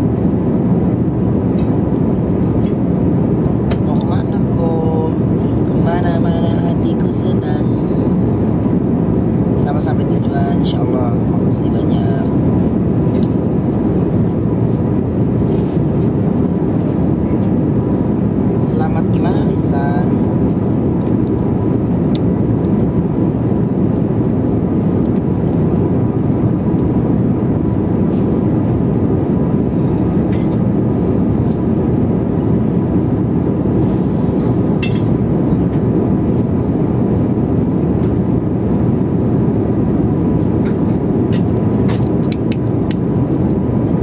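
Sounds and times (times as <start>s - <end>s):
airliner cabin engine rush: 0.0s - 44.0s
faint steady hum: 0.0s - 44.0s.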